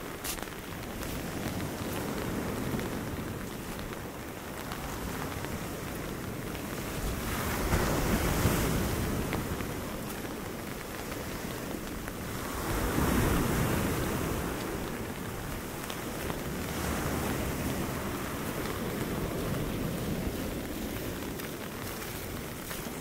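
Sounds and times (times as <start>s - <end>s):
waves breaking: 0.0s - 23.0s
wind buffeting microphone: 0.0s - 23.0s.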